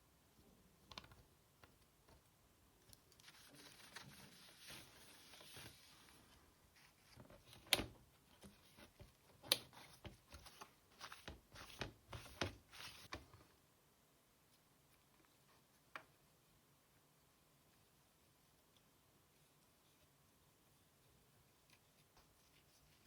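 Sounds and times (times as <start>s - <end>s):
soft rubbing of plastic: 0.4s - 13.6s, 14.4s - 16.2s, 16.9s - 23.0s.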